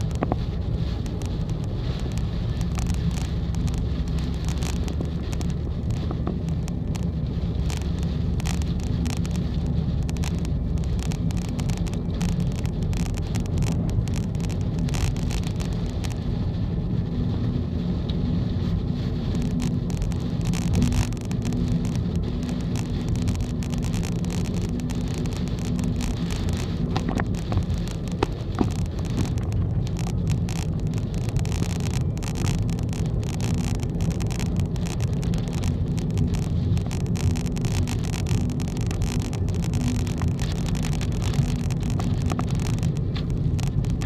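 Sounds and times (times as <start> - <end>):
car engine and tyres on wet road: 0.0 - 44.0
rain crackling against car: 0.0 - 44.0.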